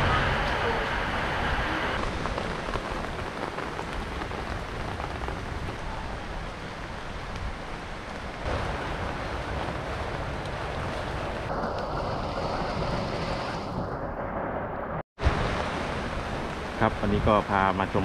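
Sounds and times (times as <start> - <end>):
wind buffeting microphone: 0.0 - 14.6
heavy rain falling: 0.0 - 18.0.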